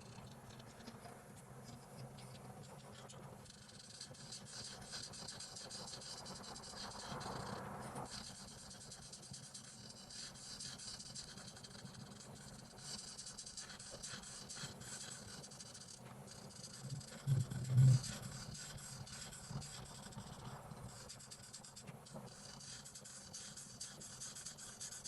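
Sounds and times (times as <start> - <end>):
coloring strokes scratching paper: 0.0 - 25.0.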